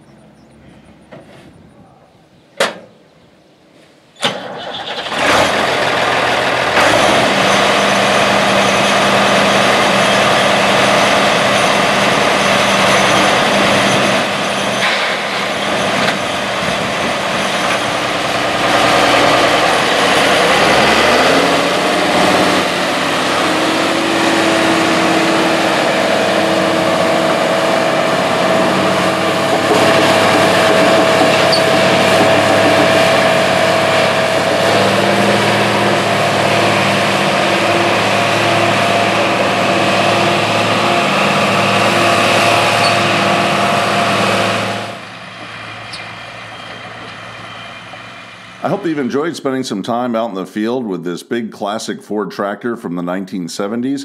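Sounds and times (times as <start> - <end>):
tractor diesel engine revving: 4.2 - 49.7
steady whine: 5.5 - 49.8.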